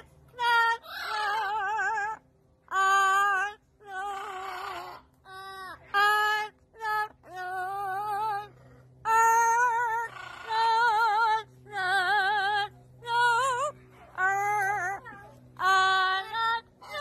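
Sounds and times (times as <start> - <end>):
parrot singing operatically: 0.0 - 8.4, 9.0 - 17.0.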